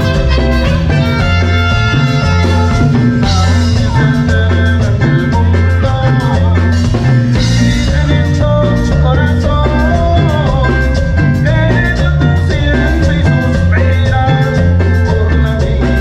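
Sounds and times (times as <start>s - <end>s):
bass and drum beat: 0.0s - 16.0s
live band playing instrumental: 0.0s - 16.0s.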